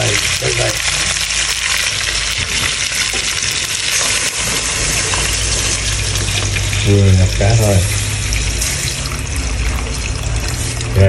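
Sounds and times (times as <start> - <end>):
fish sizzling in hot oil: 0.0 - 11.0
water pouring into pot: 0.0 - 11.0.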